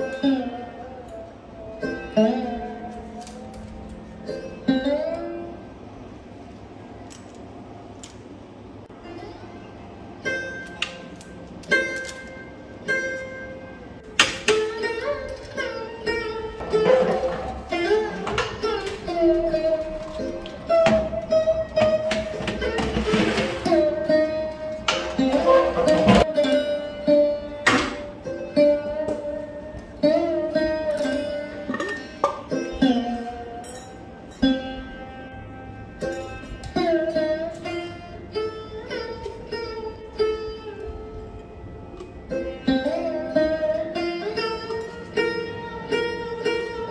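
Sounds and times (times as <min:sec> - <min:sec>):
plucked string instrument music: 0:00.0 - 0:46.9.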